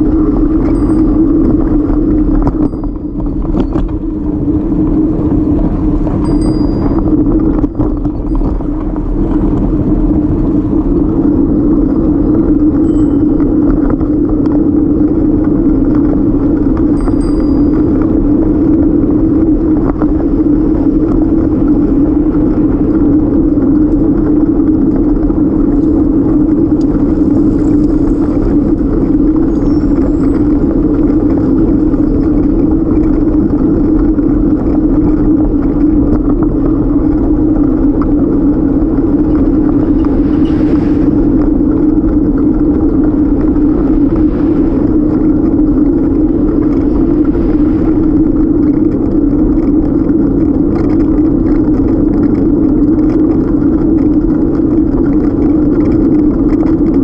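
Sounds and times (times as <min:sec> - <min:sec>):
tyre road rumble: 0:00.0 - 0:57.0
wind rushing over microphone: 0:00.0 - 0:57.0.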